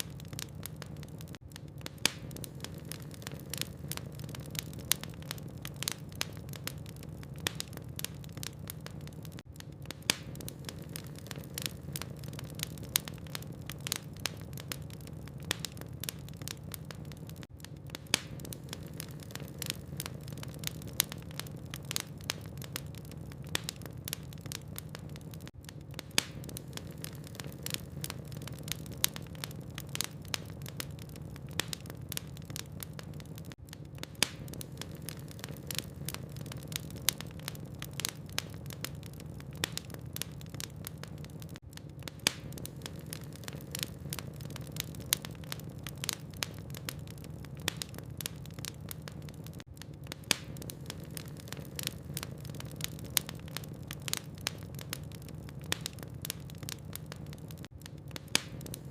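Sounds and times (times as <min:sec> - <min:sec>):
logs crackling in a fireplace: 0:00.0 - 0:58.9.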